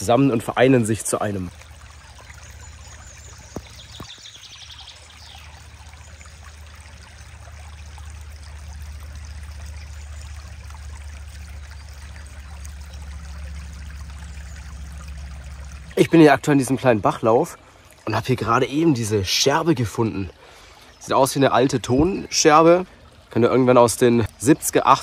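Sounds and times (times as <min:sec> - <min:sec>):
brook trickling and babbling: 0:00.0 - 0:25.0.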